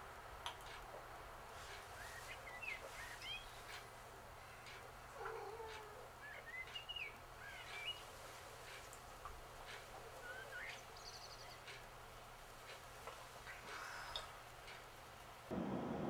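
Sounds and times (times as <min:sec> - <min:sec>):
small birds chirping: 0:01.5 - 0:15.0.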